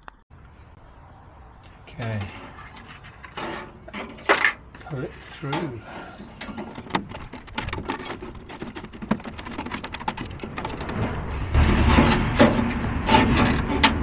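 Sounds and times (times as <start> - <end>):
pipe and wires pulled through hole: 1.6 - 14.0.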